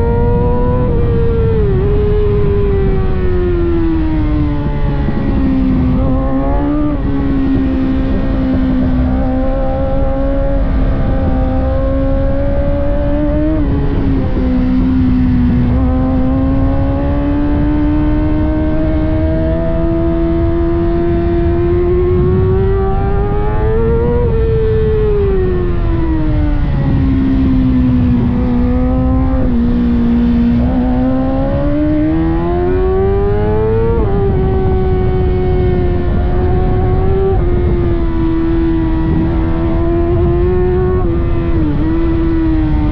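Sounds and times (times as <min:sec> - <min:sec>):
constant low rush: 0:00.0 - 0:42.9
sport bike engine revving: 0:03.5 - 0:42.9.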